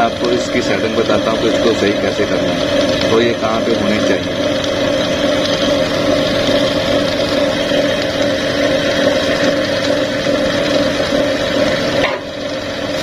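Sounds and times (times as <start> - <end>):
machine motor humming: 0.0 - 13.0.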